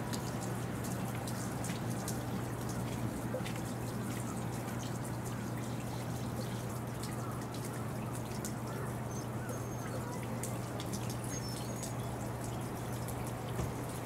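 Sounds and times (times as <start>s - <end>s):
raindrops dripping and pattering: 0.0s - 14.0s.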